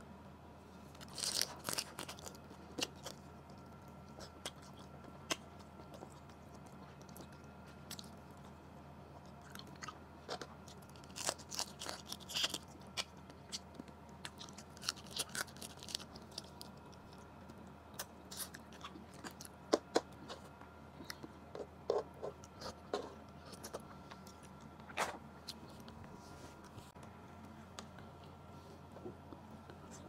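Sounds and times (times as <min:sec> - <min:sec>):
chewing food: 0:00.9 - 0:30.0.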